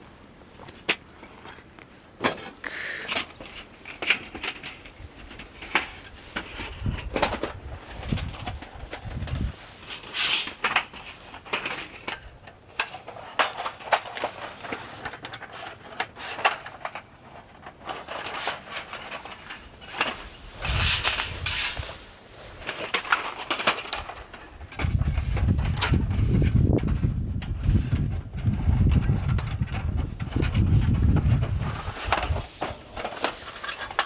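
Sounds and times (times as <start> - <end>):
rustling: 0.0 - 34.0.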